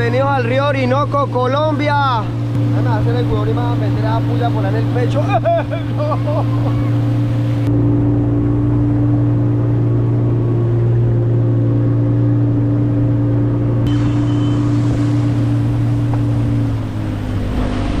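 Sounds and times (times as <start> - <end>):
boat motor drone: 0.0 - 18.0.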